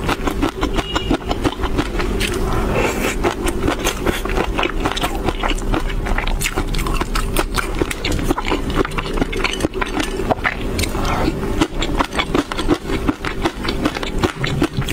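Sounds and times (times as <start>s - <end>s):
crackly chewing: 0.0s - 14.9s.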